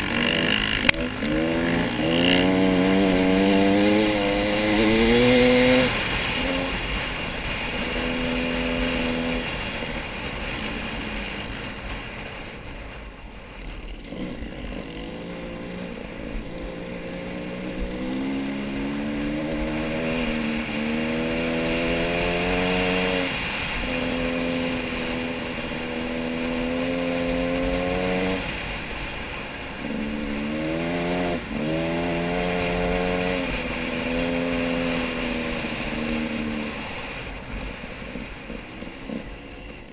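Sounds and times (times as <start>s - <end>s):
vehicle engine revving: 0.0s - 9.7s, 14.0s - 28.8s, 29.7s - 37.4s.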